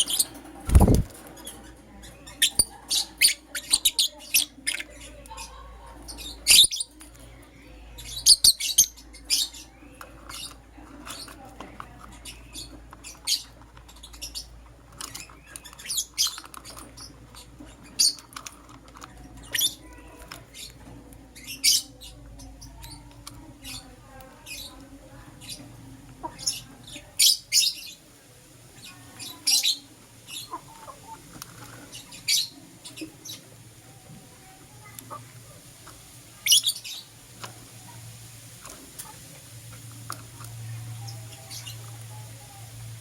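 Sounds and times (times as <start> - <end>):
lovebirds chirping: 0.0 - 38.1, 39.8 - 43.0.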